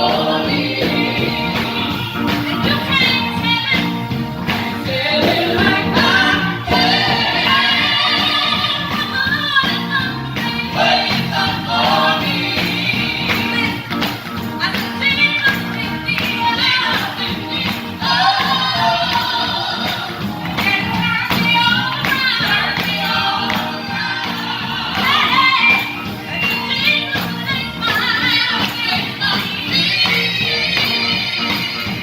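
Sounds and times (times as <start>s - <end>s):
gospel choir singing: 0.0s - 32.0s
live band playing: 0.0s - 32.0s
percussion beat: 0.0s - 32.0s.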